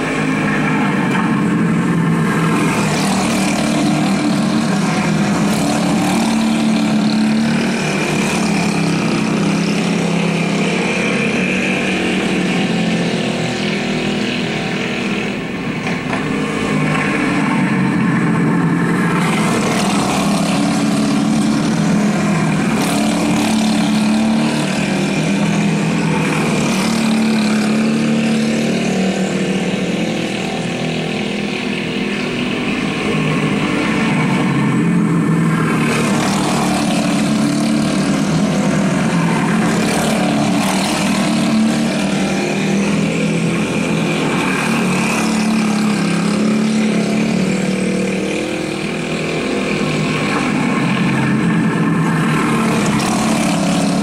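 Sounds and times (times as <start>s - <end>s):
go-kart engines racing: 0.0s - 54.0s.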